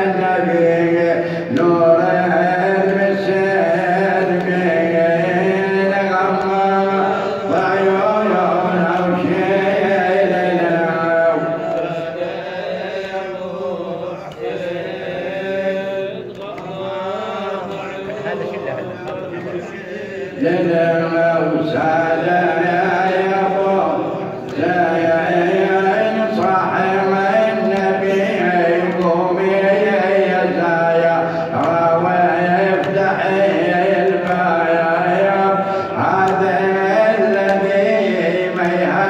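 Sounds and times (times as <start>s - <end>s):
man chanting a lament: 0.0s - 39.0s.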